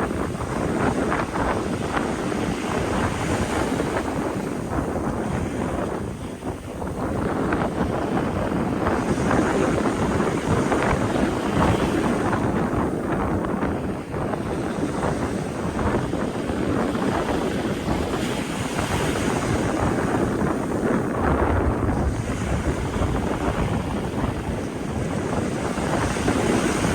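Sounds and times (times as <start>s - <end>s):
sea waves breaking: 0.0s - 26.9s
wind buffeting microphone: 0.0s - 26.9s.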